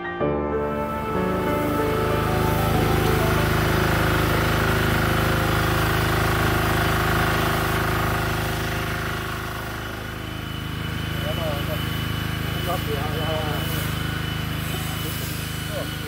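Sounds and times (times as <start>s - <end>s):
small engine running: 0.7s - 16.0s.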